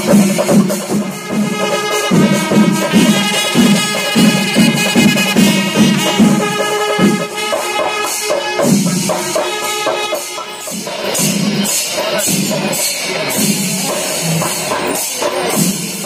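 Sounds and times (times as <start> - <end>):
music with steady percussion: 0.0 - 16.0.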